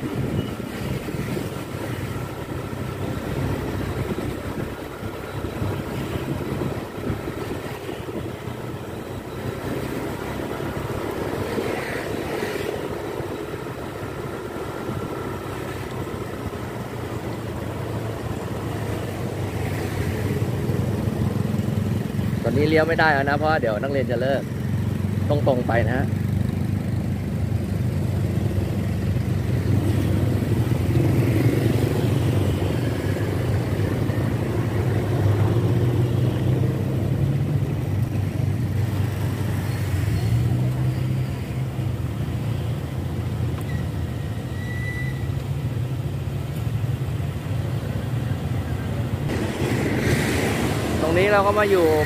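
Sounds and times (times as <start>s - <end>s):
motorcycle engine rumble: 0.0s - 52.0s.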